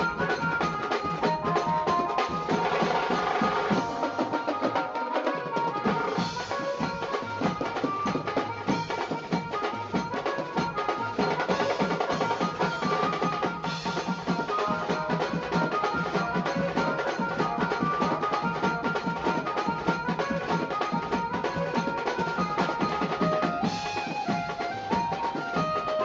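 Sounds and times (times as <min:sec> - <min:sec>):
music with quick drum beat: 0:00.0 - 0:26.0.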